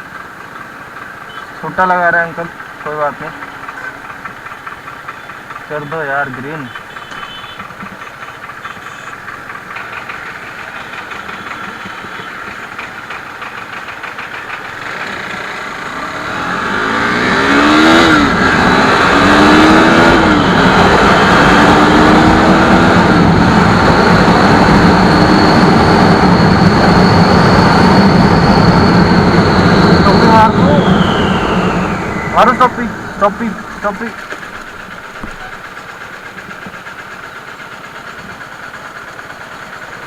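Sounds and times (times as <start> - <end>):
motorcycle accelerating: 0.0 - 40.0.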